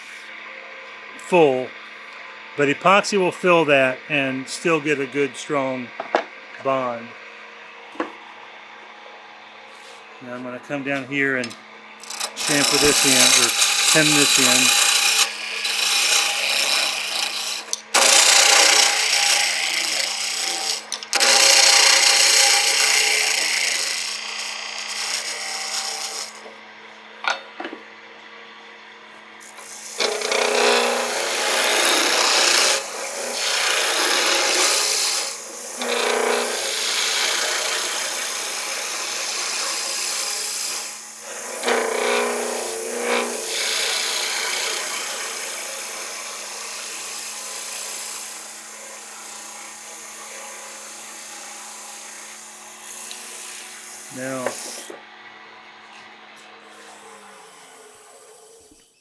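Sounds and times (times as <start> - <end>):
wood lathe humming: 0.0 - 7.2, 7.8 - 27.7, 29.0 - 58.8
turning tool cutting wood: 2.6 - 7.0, 10.2 - 26.6, 29.4 - 55.0, 56.0 - 59.0.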